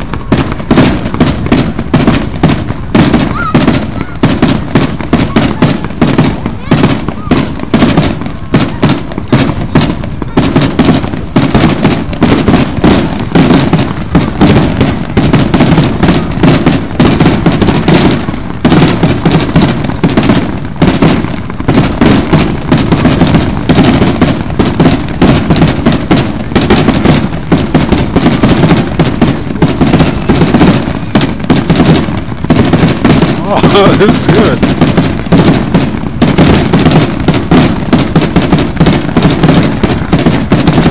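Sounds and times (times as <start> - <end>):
fireworks launching and bursting: 0.0 - 40.9.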